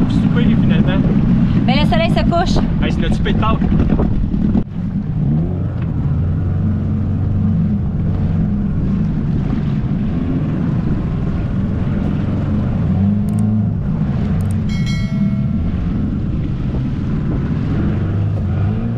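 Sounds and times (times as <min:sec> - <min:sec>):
outboard motor running: 0:00.0 - 0:18.9.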